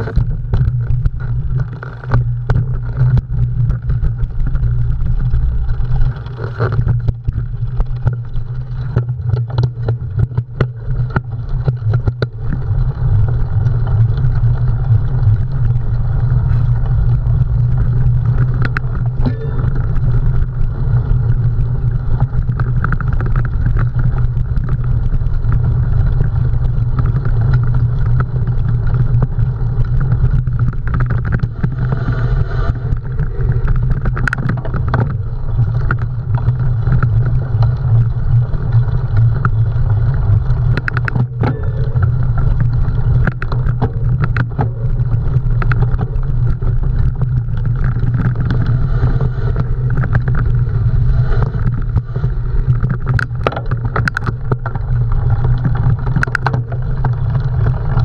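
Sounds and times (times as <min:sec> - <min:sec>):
bike rattling over rough ground: 0:00.0 - 0:58.0
wind rumble on microphone: 0:00.0 - 0:58.0.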